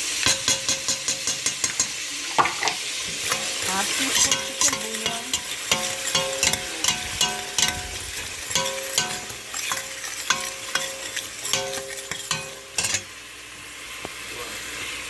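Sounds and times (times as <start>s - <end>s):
oil sizzling: 0.0s - 15.0s
spoon knocking against pot: 0.2s - 13.1s.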